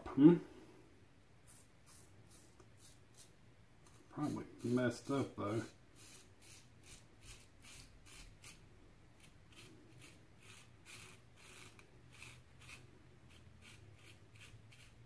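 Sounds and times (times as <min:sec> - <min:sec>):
razor scraping stubble: 0:01.5 - 0:15.0.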